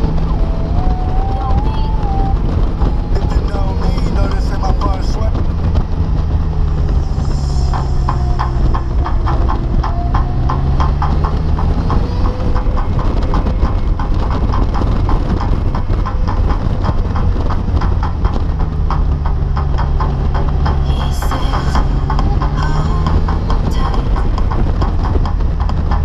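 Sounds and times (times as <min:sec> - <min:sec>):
low engine drone: 0:00.0 - 0:26.0
rapid ticking: 0:00.0 - 0:26.0
wind rush: 0:00.0 - 0:26.0.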